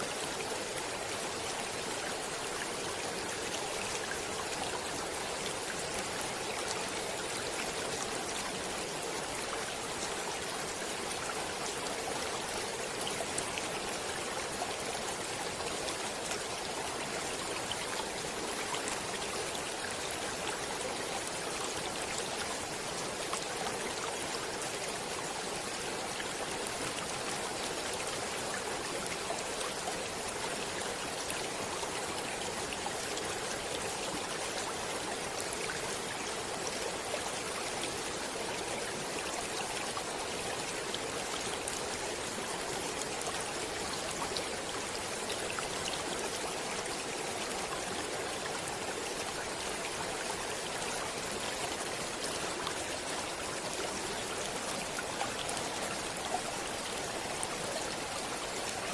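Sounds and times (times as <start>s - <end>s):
stream flowing over rocks: 0.0s - 58.9s
water splashes and trickles: 0.0s - 58.9s.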